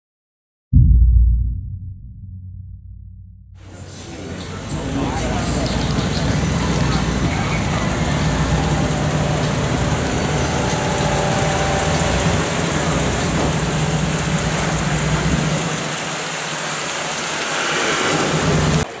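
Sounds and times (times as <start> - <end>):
car engine idling: 3.6 - 18.8.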